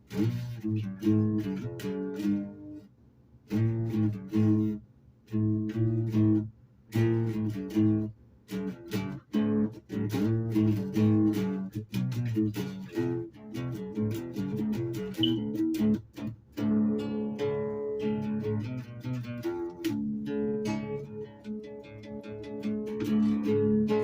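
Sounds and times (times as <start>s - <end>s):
guitar chords: 0.0s - 2.9s, 3.5s - 24.0s.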